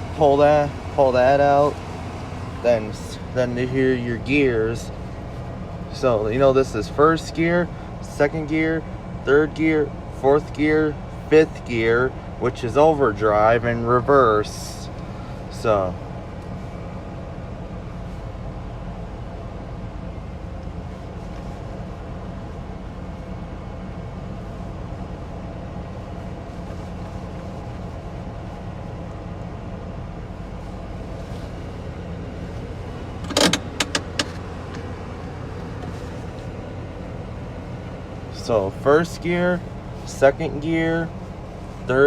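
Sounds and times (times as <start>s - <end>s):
pickup engine idling: 0.0s - 42.0s.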